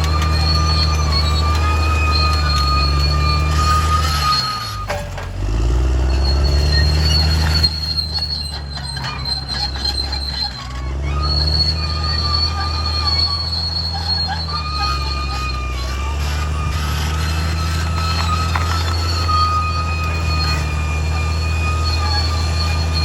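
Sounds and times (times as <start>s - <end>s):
bulldozer diesel engine under load: 0.0s - 23.0s
high metallic squeal: 0.0s - 23.0s.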